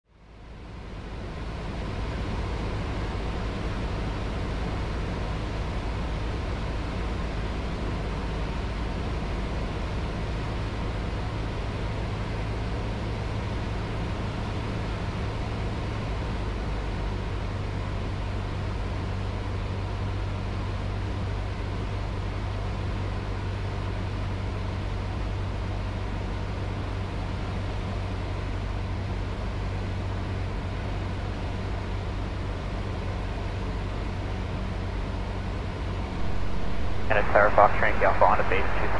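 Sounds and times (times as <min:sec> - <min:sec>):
aircraft engine and propeller drone: 0:00.2 - 0:38.9.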